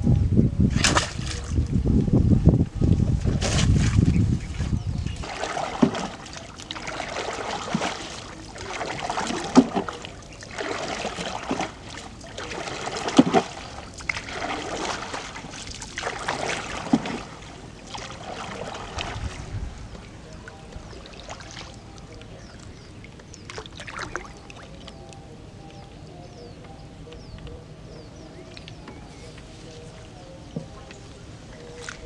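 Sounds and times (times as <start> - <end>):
paddle splashing through water: 0.7 - 1.6, 3.2 - 25.0, 28.5 - 32.0.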